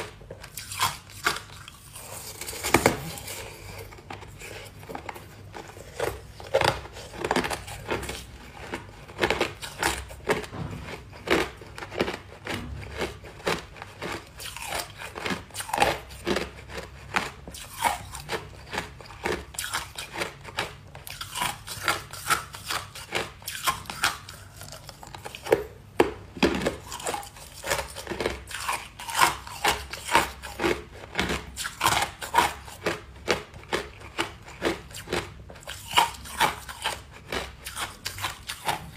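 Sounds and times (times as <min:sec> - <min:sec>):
person crunching ice cubes: 0:00.0 - 0:38.9.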